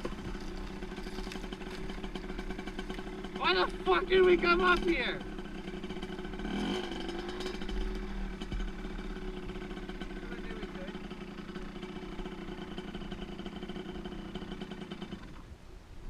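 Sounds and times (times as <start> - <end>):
dirt bike engine idling: 0.0 - 15.7.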